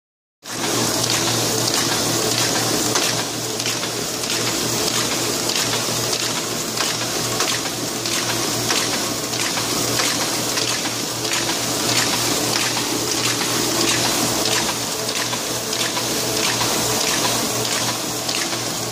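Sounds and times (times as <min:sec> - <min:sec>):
printing press running: 0:00.5 - 0:18.9
press cycling mechanism ticking: 0:01.0 - 0:18.7.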